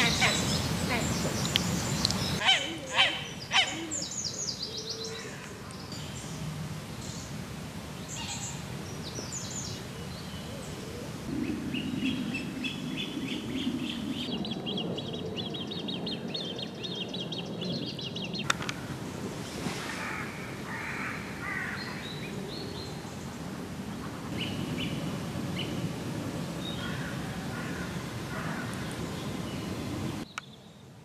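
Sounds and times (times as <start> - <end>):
small birds singing: 0.0 - 19.6, 20.7 - 31.0
outdoor background noise: 0.0 - 31.0.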